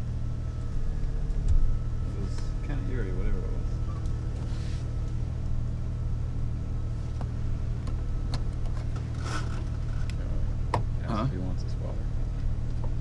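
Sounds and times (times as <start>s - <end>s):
car engine running low: 0.0s - 13.0s.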